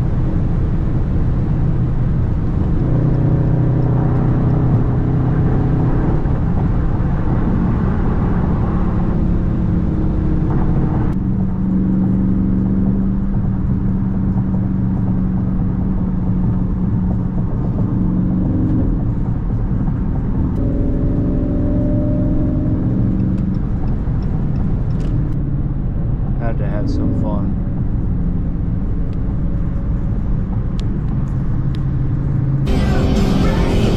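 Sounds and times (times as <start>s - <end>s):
car engine cruising: 0.0s - 33.9s.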